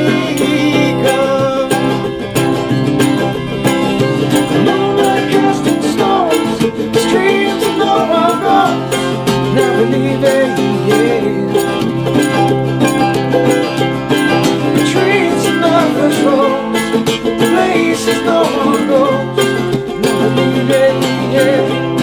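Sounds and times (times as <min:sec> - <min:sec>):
picked mandolin: 0:00.0 - 0:22.0
strummed acoustic guitar: 0:00.0 - 0:22.0
two people singing: 0:00.0 - 0:22.0.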